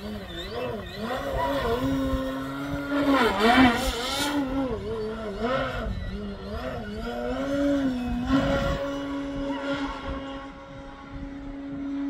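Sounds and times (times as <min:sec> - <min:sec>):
model plane motor droning: 0:00.0 - 0:12.0.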